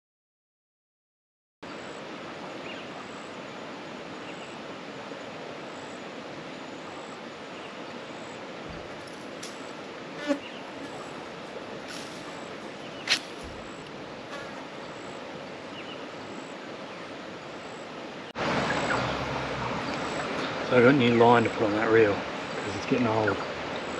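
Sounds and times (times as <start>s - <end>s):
insects buzzing: 1.7s - 23.9s
outdoor hiss: 1.7s - 23.9s.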